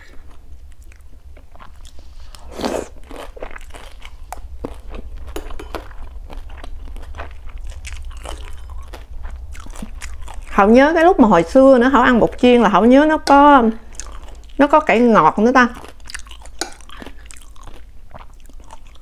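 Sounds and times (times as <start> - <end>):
chewing crispy food: 0.0 - 19.0.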